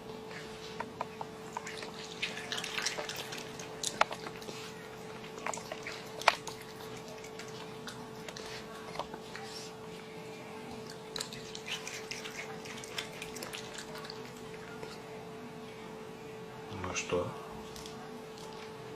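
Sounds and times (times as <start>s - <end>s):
wet chewing and smacking: 0.0s - 9.8s, 10.6s - 15.2s, 17.6s - 18.8s
steady hum: 0.0s - 18.9s.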